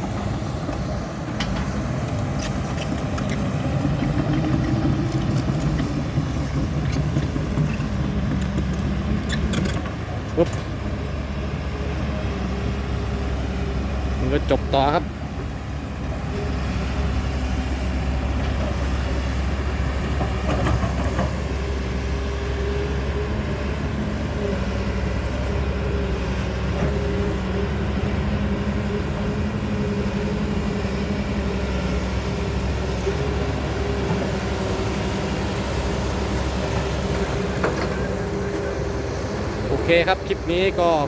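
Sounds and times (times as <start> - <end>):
heavy vehicle engine droning: 0.0 - 41.0.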